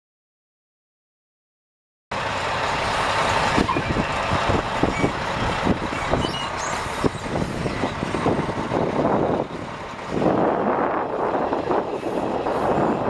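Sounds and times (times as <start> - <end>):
diesel truck engine idling: 2.1 - 13.0.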